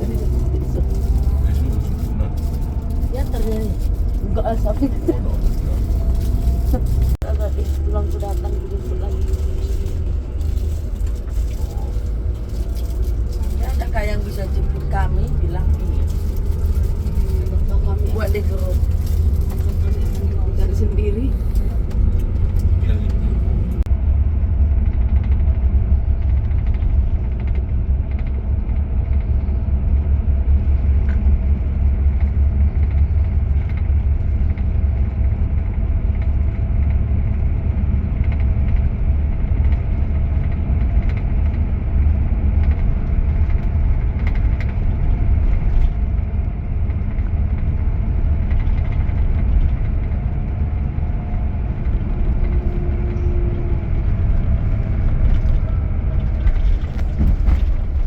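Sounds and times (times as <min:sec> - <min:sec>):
coach engine and road rumble: 0:00.0 - 0:58.0.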